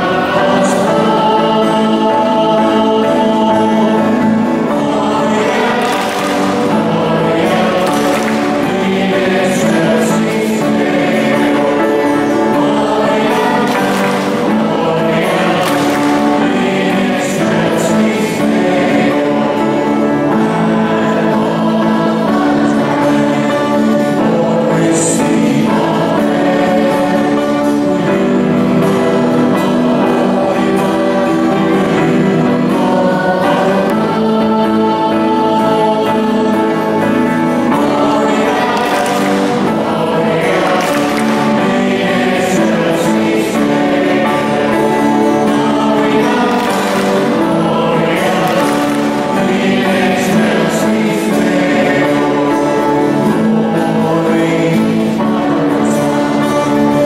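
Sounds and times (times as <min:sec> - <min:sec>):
church choir singing: 0:00.0 - 0:57.0
sustained instrumental accompaniment: 0:00.0 - 0:57.0.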